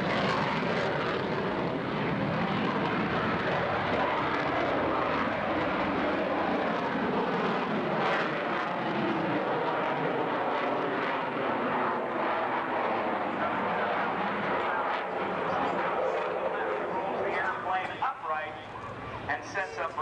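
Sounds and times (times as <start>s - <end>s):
jet engine roar overhead: 0.0s - 20.0s.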